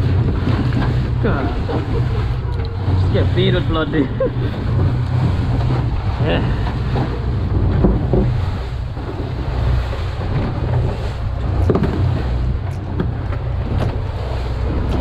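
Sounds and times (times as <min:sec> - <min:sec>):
low rumble of boat and water: 0:00.0 - 0:15.0
wind buffeting microphone: 0:00.0 - 0:15.0.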